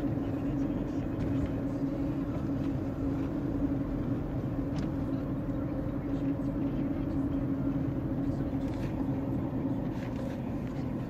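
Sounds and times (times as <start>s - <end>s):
constant low hum: 0.0s - 11.0s
vehicle engine drone: 0.0s - 11.0s.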